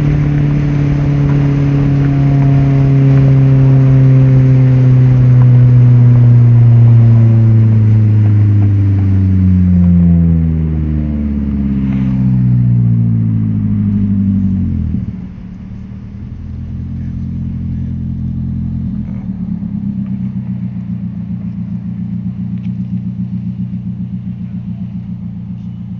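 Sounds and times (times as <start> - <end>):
car engine on the move: 0.0 - 25.9.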